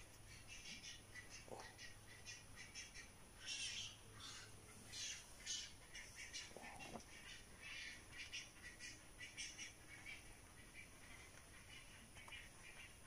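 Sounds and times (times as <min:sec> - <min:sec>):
birds chirping: 0:00.0 - 0:13.0
bird squawk: 0:00.2 - 0:13.0.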